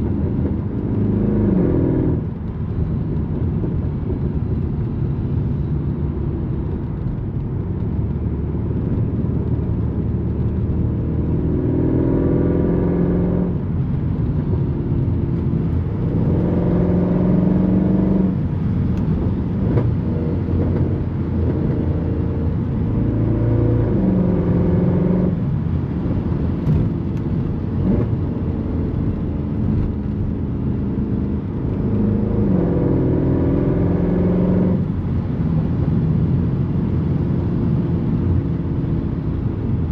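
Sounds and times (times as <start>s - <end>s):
car engine accelerating through gears: 0.0s - 39.9s.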